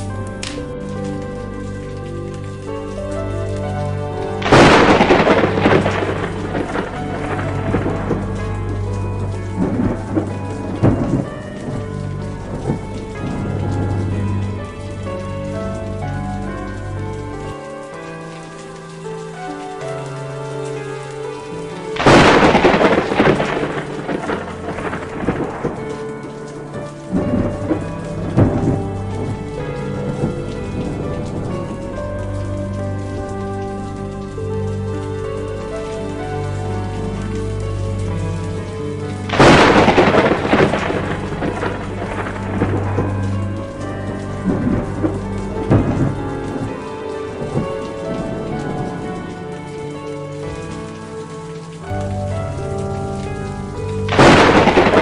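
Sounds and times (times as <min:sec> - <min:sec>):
sharp crackles: 0:00.0 - 0:55.0
soft sustained music: 0:00.0 - 0:55.0
steady rain: 0:00.0 - 0:55.0
thunder rumbling: 0:00.0 - 0:55.0.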